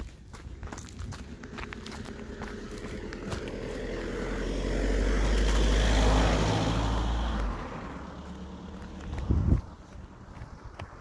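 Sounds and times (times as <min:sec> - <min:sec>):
footsteps on road: 0:00.0 - 0:11.0
car driving past: 0:01.1 - 0:10.2.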